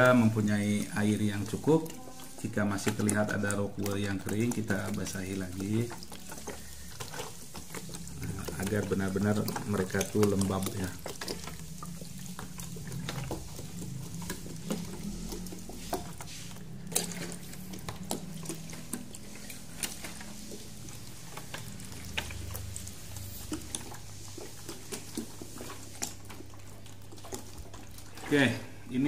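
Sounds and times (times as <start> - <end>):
low steady hum: 0.0 - 29.0
water trickling from a bottle: 0.0 - 29.0.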